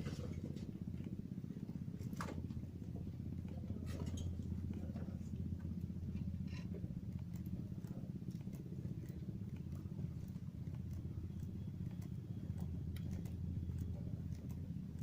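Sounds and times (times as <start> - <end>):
small engine rumbling: 0.0 - 15.0
faint ticks: 0.6 - 15.0.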